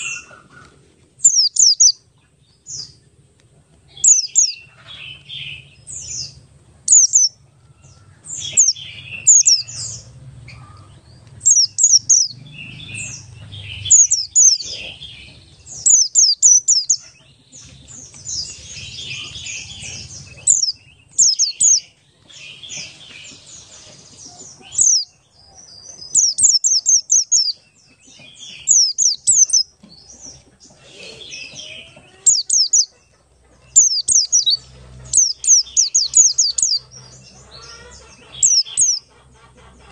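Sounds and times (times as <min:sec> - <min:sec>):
soft low bird twittering: 0:00.0 - 0:03.0, 0:04.0 - 0:23.6, 0:24.3 - 0:32.9, 0:33.7 - 0:39.1.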